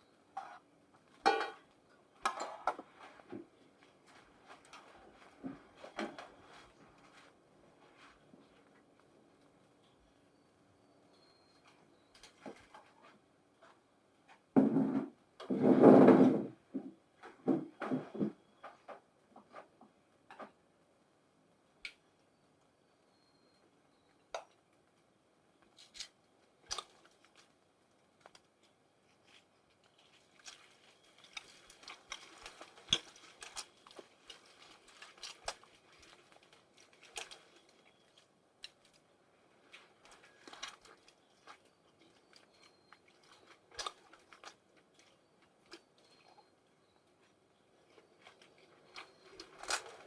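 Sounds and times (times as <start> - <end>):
soft rustling and crinkling: 0.0 - 21.0, 21.9 - 50.0.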